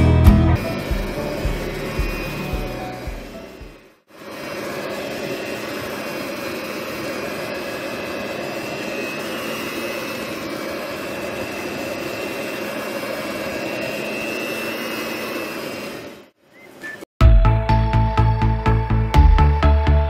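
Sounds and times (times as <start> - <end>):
electric hand mixer whine: 0.0 - 16.4.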